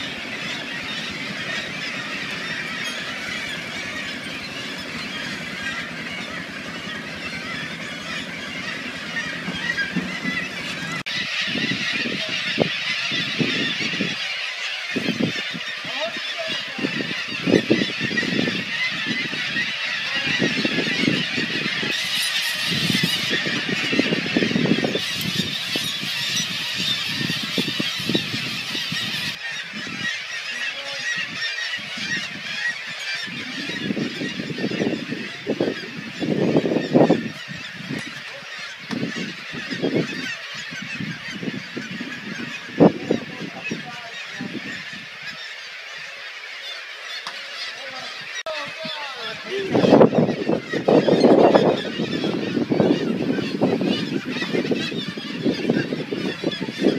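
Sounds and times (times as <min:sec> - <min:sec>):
seabird colony calling: 0:00.0 - 0:56.9.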